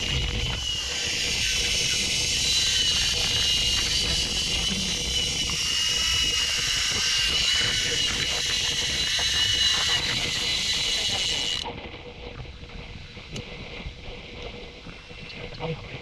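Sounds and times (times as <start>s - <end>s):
drone propellers whining: 0.0s - 16.0s
low wind rumble: 0.0s - 16.0s.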